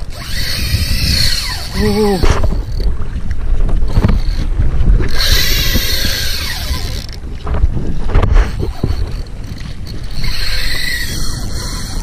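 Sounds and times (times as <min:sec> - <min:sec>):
fishing reel buzzing: 0:00.0 - 0:02.9, 0:03.9 - 0:07.3, 0:08.4 - 0:12.0
wind rumbling on microphone: 0:00.0 - 0:12.0.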